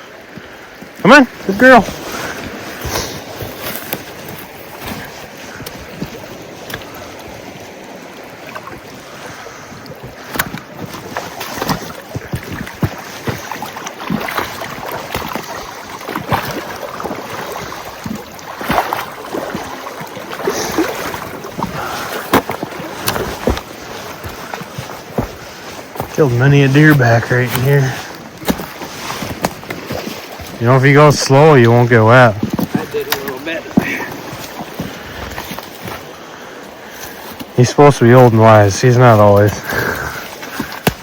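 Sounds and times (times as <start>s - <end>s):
boots splashing through water: 0.0s - 41.0s
river current rushing: 0.0s - 41.0s.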